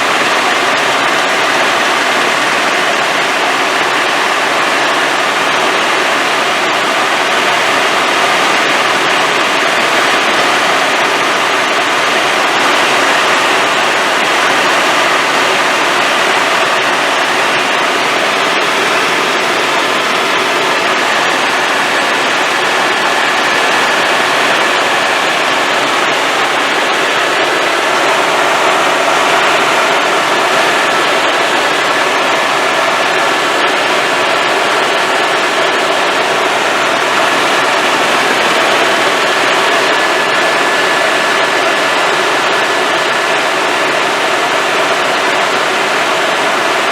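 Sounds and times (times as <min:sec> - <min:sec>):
faint steady whine: 0:00.0 - 0:46.9
helicopter engine and rotor noise: 0:00.0 - 0:46.9.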